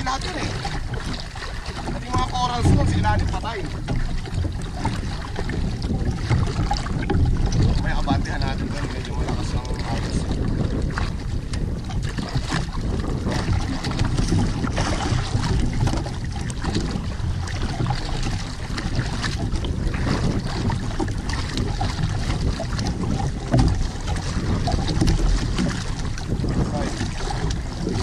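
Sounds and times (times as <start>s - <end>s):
water splashing against boat hull: 0.0s - 28.0s
wind buffeting the microphone: 0.0s - 28.0s.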